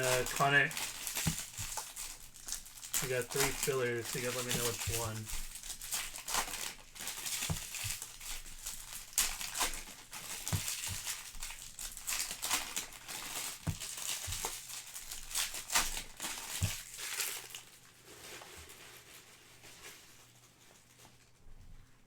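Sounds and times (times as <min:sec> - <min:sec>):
packaging crinkling and rustling: 0:00.0 - 0:21.5.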